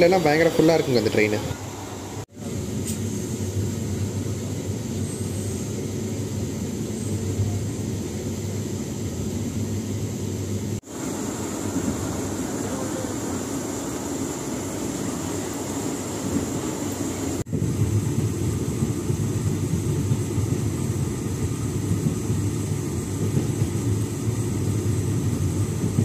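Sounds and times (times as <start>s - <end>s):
passenger train rumbling on track: 0.0s - 26.0s.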